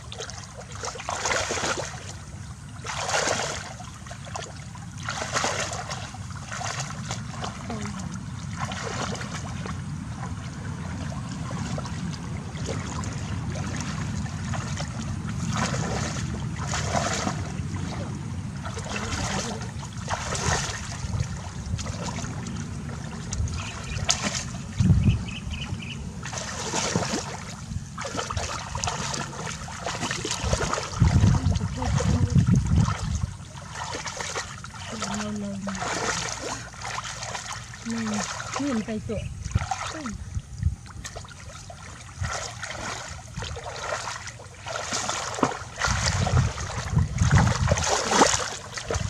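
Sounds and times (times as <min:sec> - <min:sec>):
steady low rumble: 0:00.0 - 0:49.0
water splashing and trickling: 0:00.0 - 0:49.0.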